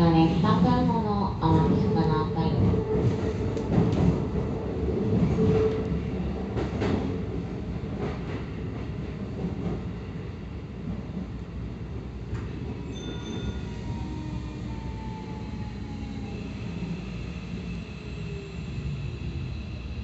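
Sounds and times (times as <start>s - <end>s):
low train rumble: 0.0s - 20.0s.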